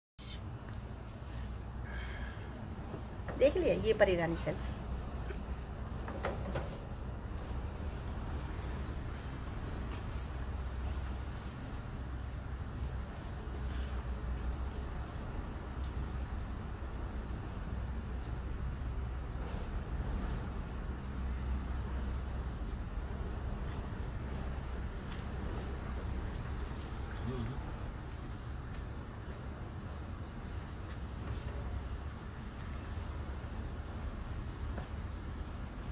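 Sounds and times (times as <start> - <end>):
cricket chirping: 0.2 - 35.9.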